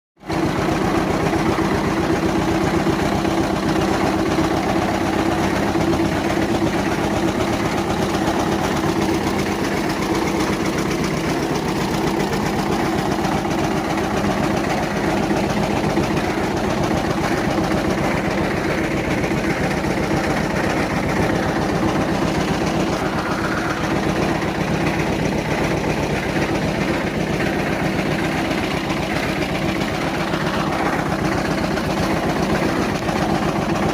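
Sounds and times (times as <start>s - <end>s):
tractor diesel engine idling: 0.2s - 33.9s.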